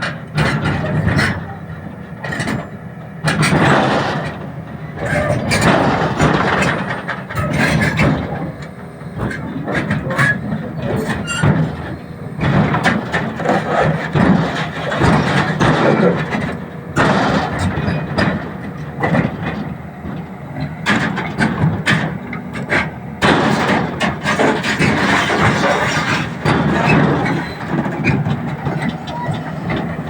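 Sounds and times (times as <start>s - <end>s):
excavator engine running: 0.0s - 30.0s
steel tracks clanking: 0.0s - 30.0s.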